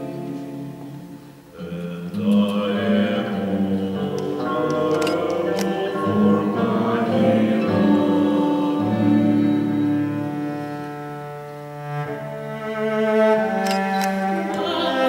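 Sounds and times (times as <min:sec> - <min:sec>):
cello: 0:00.0 - 0:15.0
classical guitars: 0:00.0 - 0:15.0.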